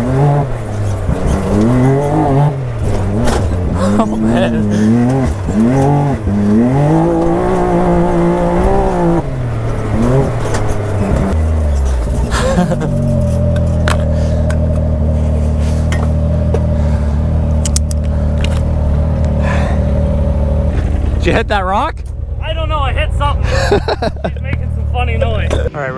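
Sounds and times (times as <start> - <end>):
vehicle engine revving and idling: 0.0 - 25.9.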